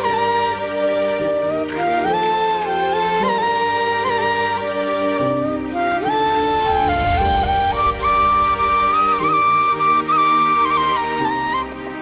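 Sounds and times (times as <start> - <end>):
flute melody: 0.0 - 12.0.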